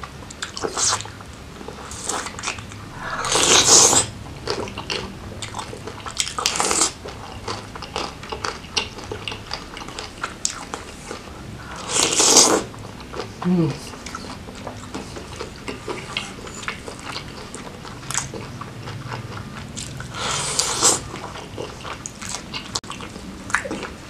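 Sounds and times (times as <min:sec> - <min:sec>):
wet biting and chewing: 0:00.3 - 0:24.0.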